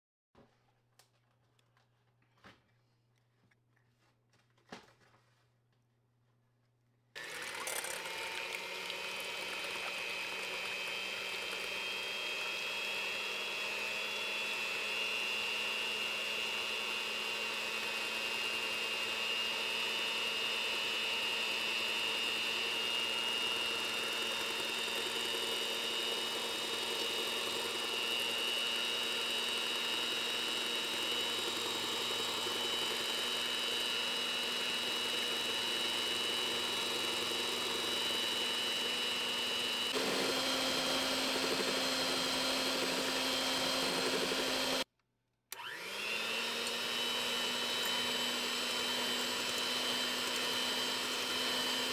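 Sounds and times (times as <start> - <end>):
electric hand mixer whining: 7.2 - 44.9, 45.5 - 51.9.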